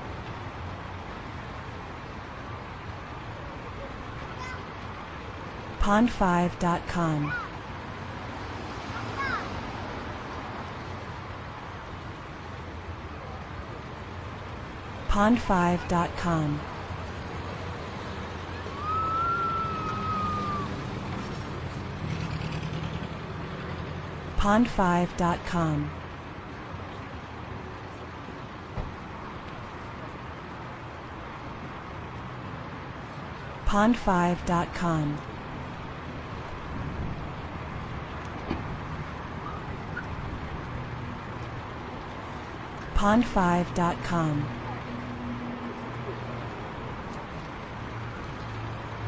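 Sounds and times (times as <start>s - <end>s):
low rumble of traffic: 0.0s - 49.0s.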